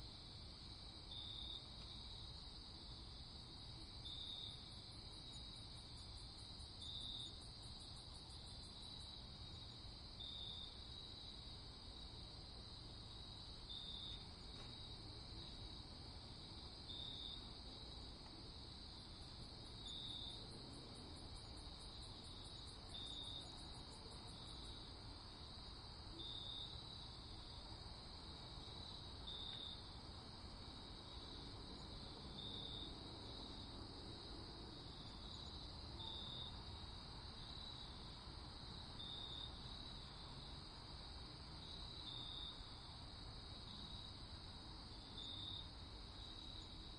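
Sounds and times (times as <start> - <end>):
cricket chirp: 0.0 - 46.9
faint low background hiss: 0.0 - 46.9
crickets trilling: 0.3 - 46.9.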